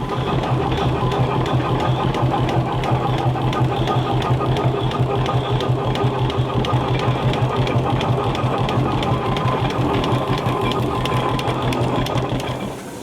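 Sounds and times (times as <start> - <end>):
engine running with clatter: 0.0 - 13.0.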